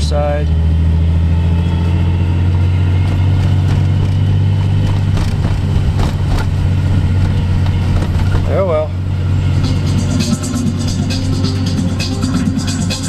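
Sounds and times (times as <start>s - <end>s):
car engine running: 0.0s - 13.0s
engine lifter tapping: 1.8s - 13.0s.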